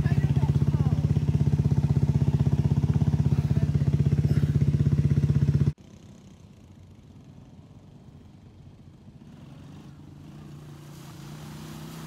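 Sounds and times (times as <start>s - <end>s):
atv engine running hard: 0.0s - 12.0s
distant atv engine: 0.0s - 12.0s.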